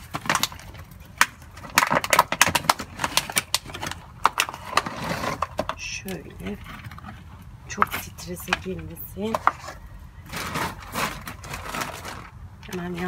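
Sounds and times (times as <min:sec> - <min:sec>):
plastic bottle crinkling and crackling: 0:00.0 - 0:13.0.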